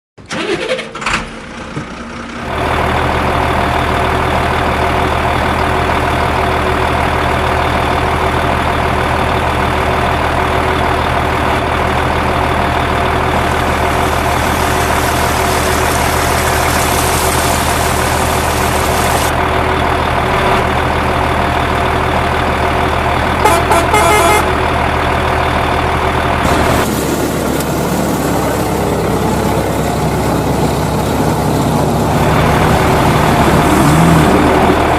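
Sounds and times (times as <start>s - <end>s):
heavy vehicle engine droning: 0.3s - 34.9s.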